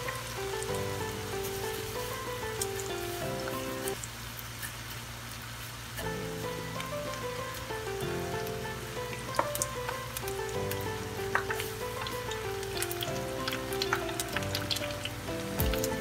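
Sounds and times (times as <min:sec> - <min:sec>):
background music of held notes: 0:00.0 - 0:04.0, 0:06.0 - 0:16.0
food deep-frying in oil: 0:00.0 - 0:16.0.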